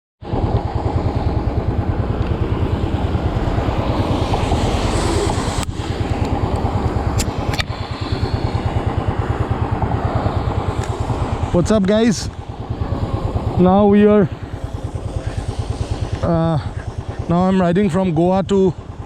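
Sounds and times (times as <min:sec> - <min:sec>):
motorcycle engine running: 0:00.2 - 0:19.0
wind and road noise: 0:00.2 - 0:19.0.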